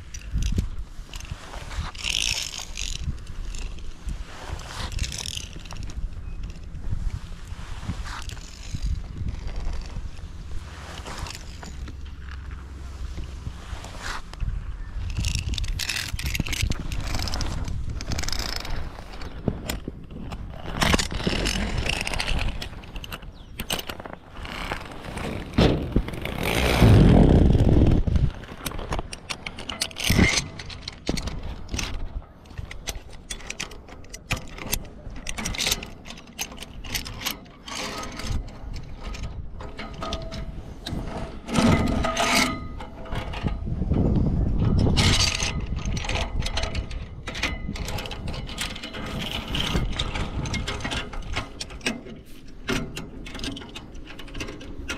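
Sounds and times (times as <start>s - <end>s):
wind buffeting microphone: 0.0s - 35.6s, 38.2s - 51.9s
pulley rattling along a cable: 0.0s - 54.9s.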